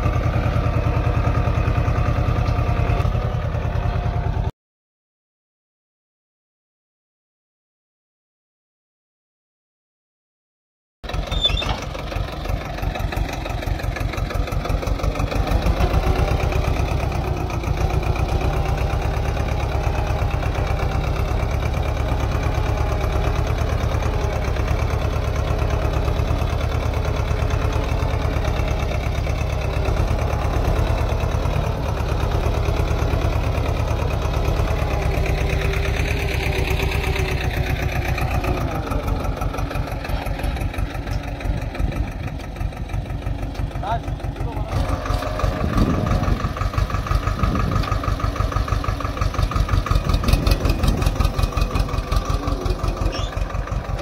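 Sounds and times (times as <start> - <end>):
tractor diesel engine under load: 0.0 - 4.5, 11.0 - 54.0.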